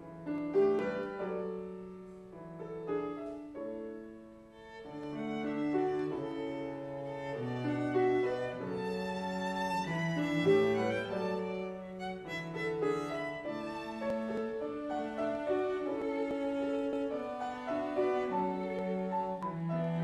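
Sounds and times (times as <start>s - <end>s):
live classical instrumental music: 0.0s - 20.0s.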